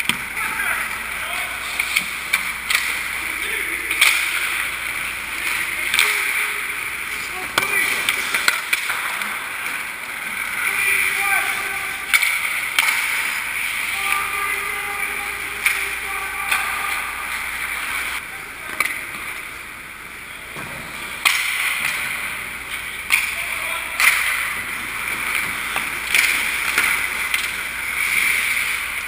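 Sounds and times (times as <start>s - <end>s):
skates scraping on ice: 0.0s - 19.6s, 20.5s - 29.0s
sticks and puck clacking: 0.0s - 29.0s.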